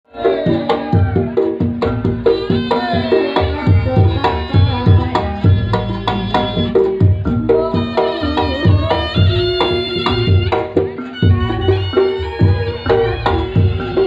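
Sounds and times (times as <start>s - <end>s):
hand drum strokes: 0.3s - 14.0s
sustained melodic instrument lines: 1.2s - 14.0s.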